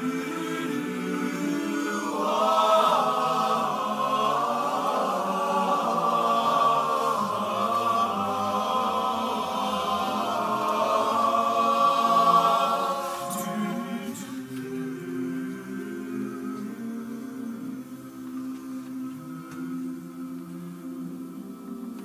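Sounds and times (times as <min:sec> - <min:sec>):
men's chorus singing a cappella: 0:00.0 - 0:22.0.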